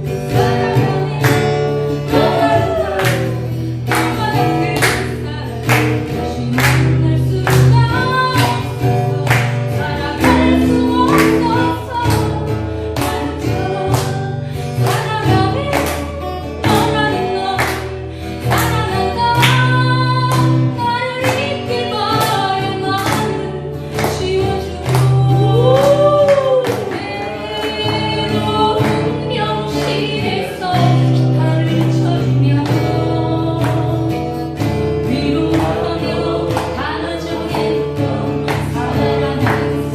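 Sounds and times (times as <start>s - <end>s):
group singing: 0.0s - 39.9s
strummed acoustic guitars: 0.0s - 39.9s.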